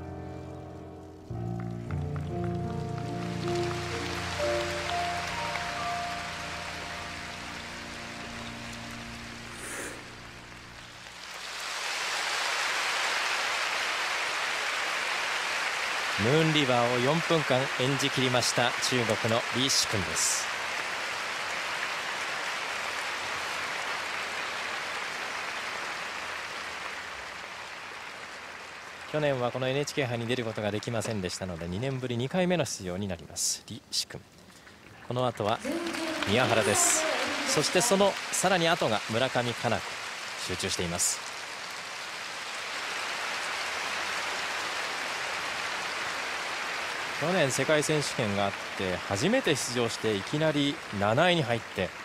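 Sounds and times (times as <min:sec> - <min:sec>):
crowd applauding: 0:01.3 - 0:32.3, 0:35.0 - 0:52.0.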